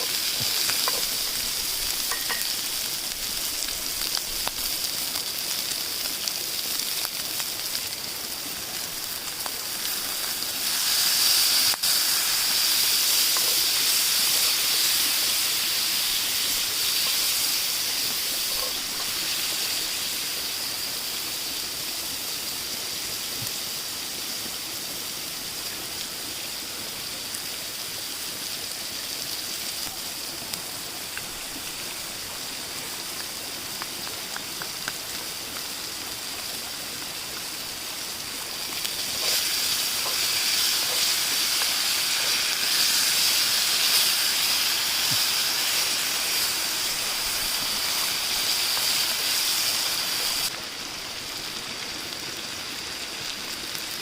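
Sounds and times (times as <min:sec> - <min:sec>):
noodles sizzling in a pan: 0:00.0 - 0:54.0.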